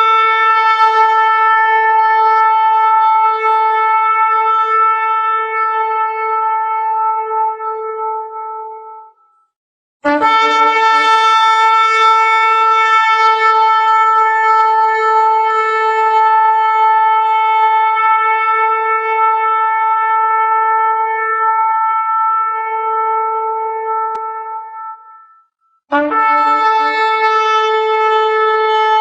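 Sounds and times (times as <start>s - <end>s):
shofar blast: 0.0s - 9.2s, 10.0s - 29.0s.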